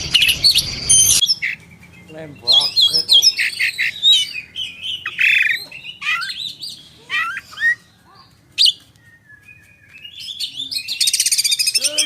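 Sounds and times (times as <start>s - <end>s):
bird singing whistles and chirps: 0.0s - 12.0s.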